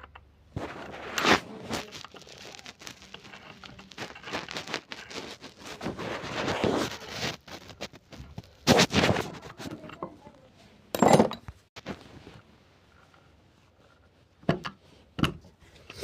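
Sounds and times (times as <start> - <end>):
rustling and crackling: 0.5 - 10.8, 11.4 - 16.0.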